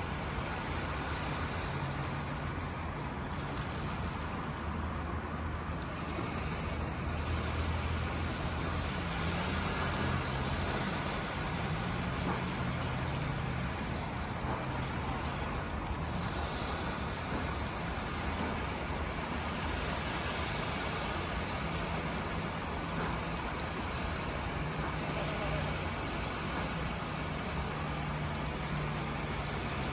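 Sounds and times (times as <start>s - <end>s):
small waves washing on beach: 0.0s - 29.9s.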